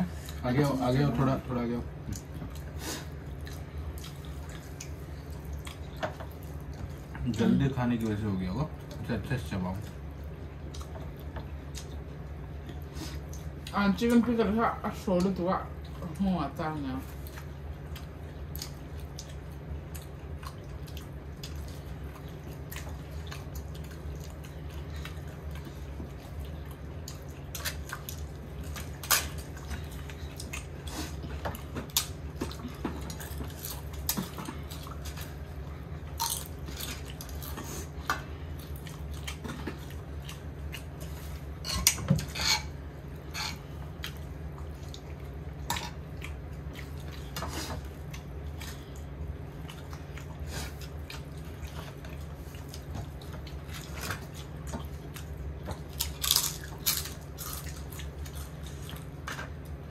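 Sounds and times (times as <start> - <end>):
steady low hum: 0.0 - 59.9
chewing: 2.0 - 9.0, 9.7 - 13.8, 17.1 - 59.8.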